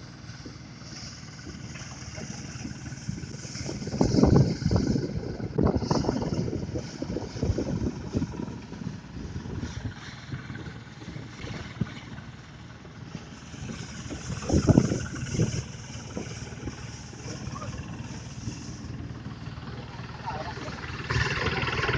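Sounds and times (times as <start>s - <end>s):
blower machine engine running: 0.0s - 21.9s
low rumbles: 0.0s - 21.9s.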